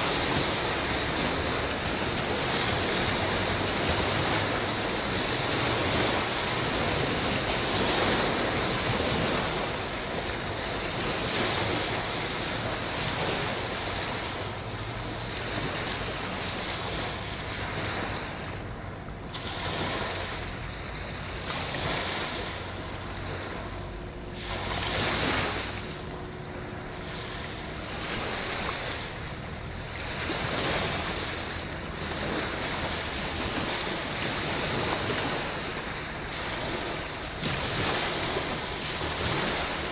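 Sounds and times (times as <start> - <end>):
choppy river water: 0.0 - 39.9.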